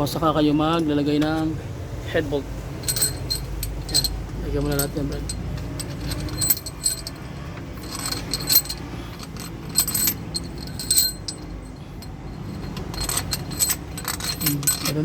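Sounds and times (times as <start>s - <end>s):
metal bolts clinking: 2.8s - 15.0s.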